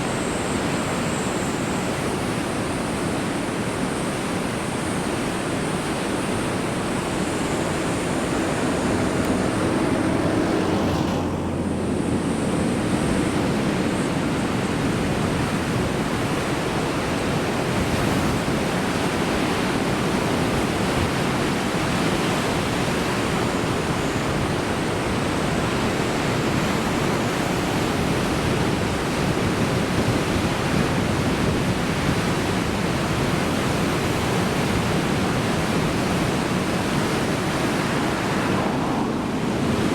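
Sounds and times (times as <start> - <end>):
heavy surf breaking on rocks: 4.3 - 39.9.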